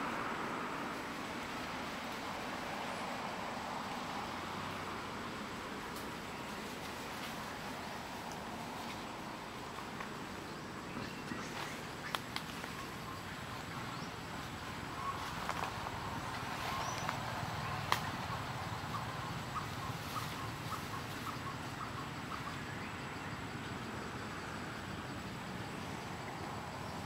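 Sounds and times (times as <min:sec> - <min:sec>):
forest ambience hiss: 0:00.0 - 0:27.0.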